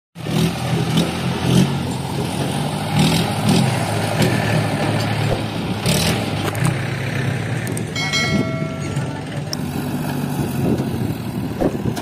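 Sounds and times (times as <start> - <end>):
diesel digger engine surging: 0.2 - 12.0.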